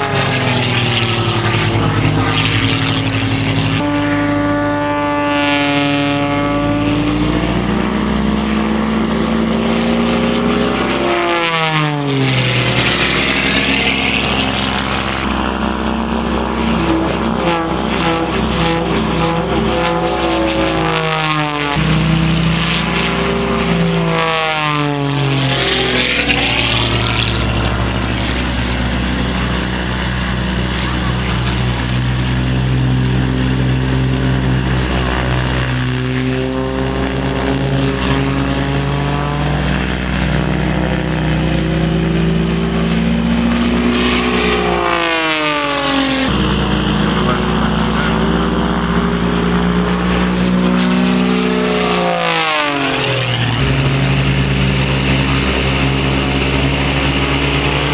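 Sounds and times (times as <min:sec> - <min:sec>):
propeller plane engine drone: 0:00.0 - 0:57.9.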